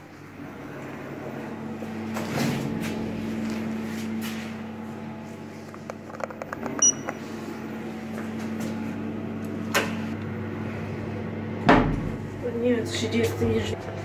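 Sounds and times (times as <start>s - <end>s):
lift hum: 0.0s - 14.0s.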